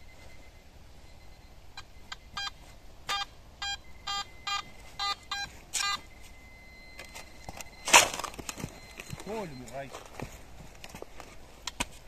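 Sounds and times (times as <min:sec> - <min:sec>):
metal detector beeping: 0:00.0 - 0:10.5.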